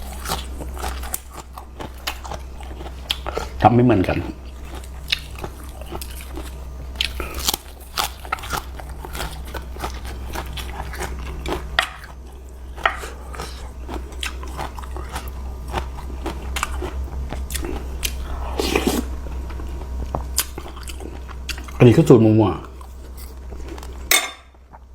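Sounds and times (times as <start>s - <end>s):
chewing crunchy food: 0.0s - 24.9s.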